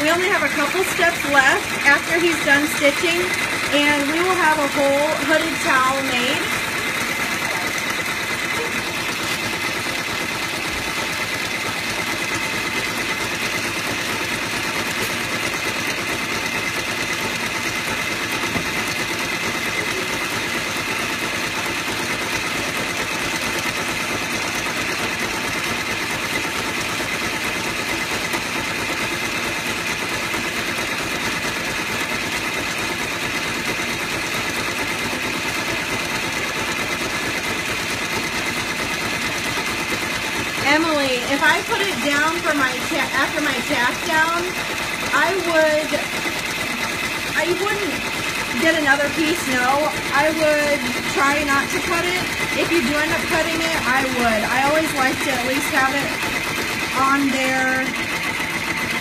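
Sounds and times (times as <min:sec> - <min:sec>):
embroidery machine chattering: 0:00.0 - 0:59.0.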